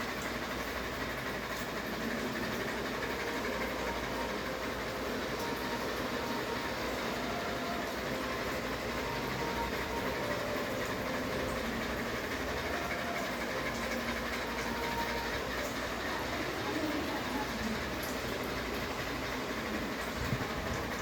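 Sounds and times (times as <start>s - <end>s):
ceiling fan whirring: 0.0s - 21.0s.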